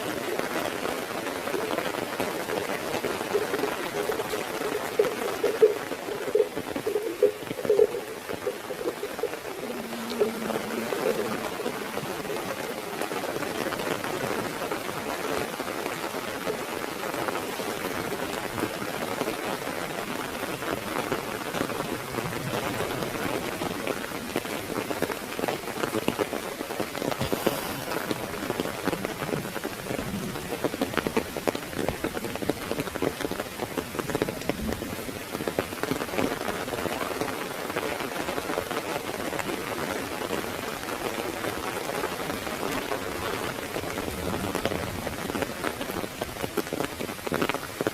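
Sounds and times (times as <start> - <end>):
heavy rain on an umbrella: 0.0 - 47.9.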